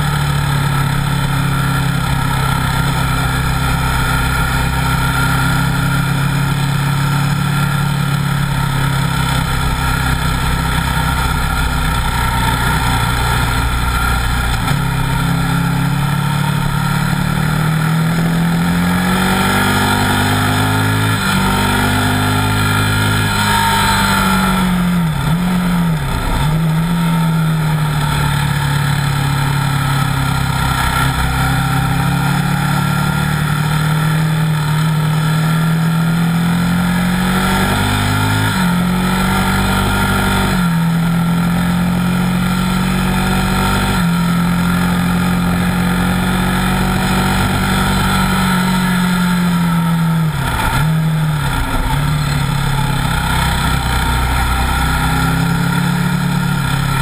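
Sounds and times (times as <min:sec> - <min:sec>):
motorcycle engine running hard: 0:00.0 - 0:57.0.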